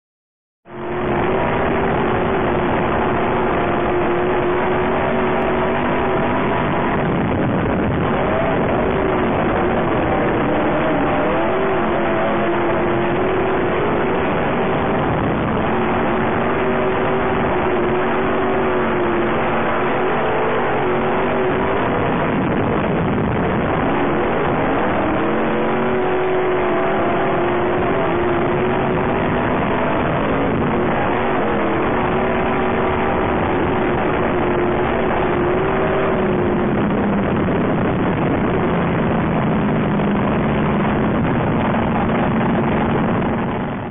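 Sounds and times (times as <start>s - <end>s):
truck engines racing: 0.7s - 43.9s.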